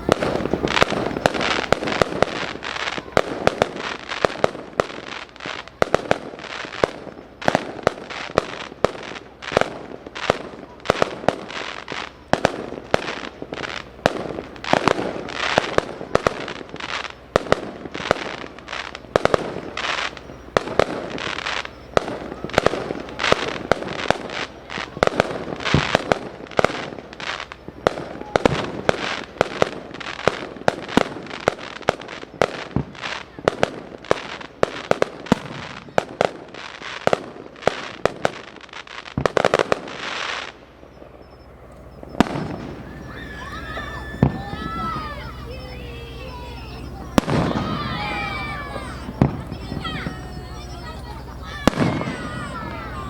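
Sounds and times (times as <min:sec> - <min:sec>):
fireworks crackle: 0:00.0 - 0:53.0.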